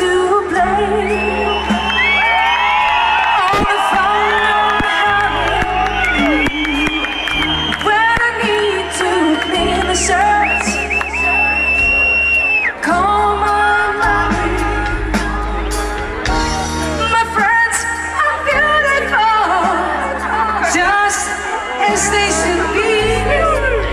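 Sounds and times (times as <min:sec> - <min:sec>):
live pop-rock band playing: 0:00.0 - 0:23.9.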